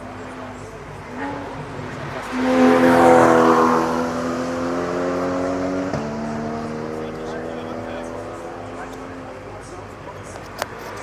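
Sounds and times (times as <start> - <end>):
race car passing at speed: 0.0 - 11.0.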